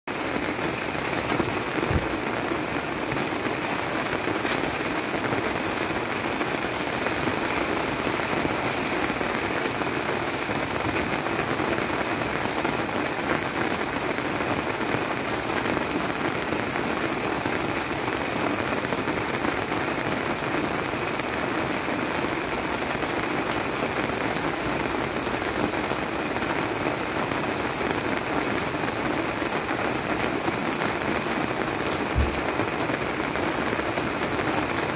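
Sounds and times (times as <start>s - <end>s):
rain on leaves: 0.1s - 34.9s.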